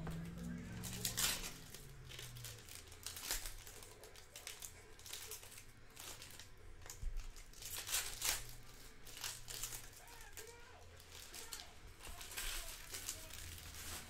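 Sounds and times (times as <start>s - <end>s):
foil wrappers crinkling and tearing: 0.0s - 14.0s.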